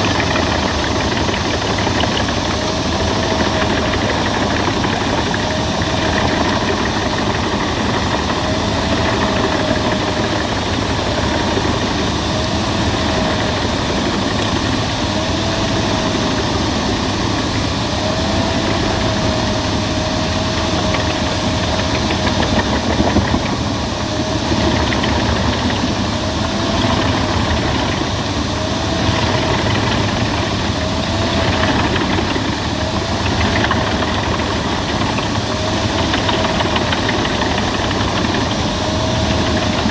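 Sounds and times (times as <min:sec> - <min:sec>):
wood chipper chipping branches: 0:00.0 - 0:39.9.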